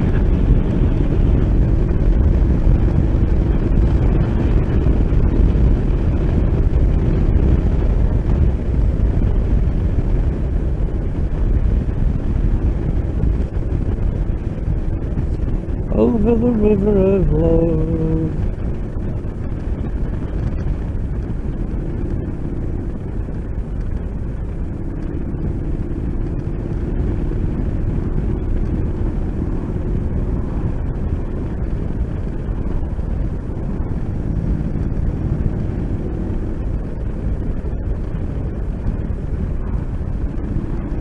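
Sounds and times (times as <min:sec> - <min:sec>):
motorcycle engine running: 0:00.0 - 0:41.0
wind noise on microphone: 0:00.0 - 0:41.0.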